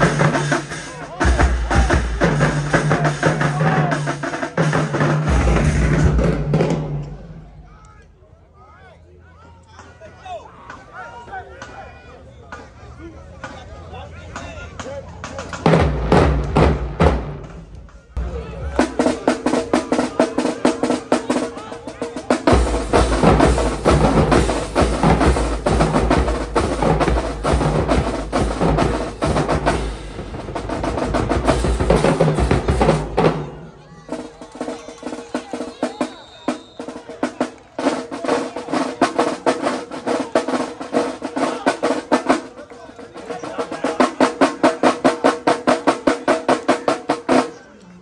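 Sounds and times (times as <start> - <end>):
drumline snare and bass cadence: 0.0 - 8.3, 9.6 - 47.6.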